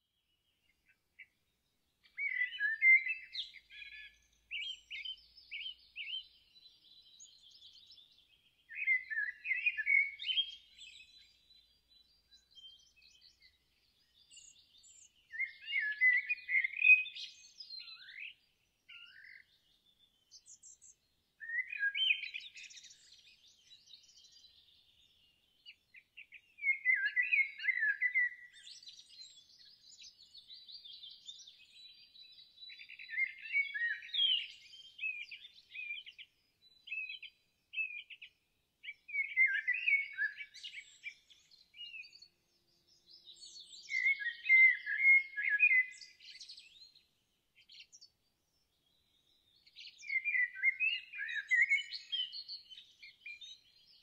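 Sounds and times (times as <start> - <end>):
faint bird chirps: 0.0 - 54.0
songbird singing: 0.0 - 54.0.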